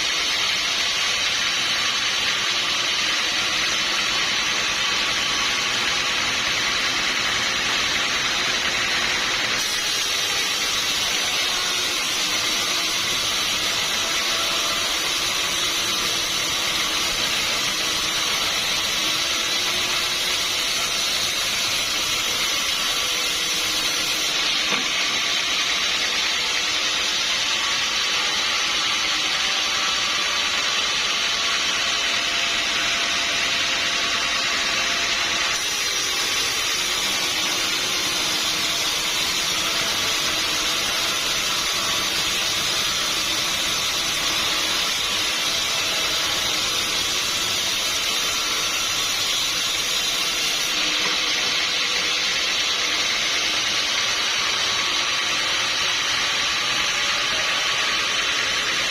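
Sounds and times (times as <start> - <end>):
saw whining through timber: 0.0 - 58.9.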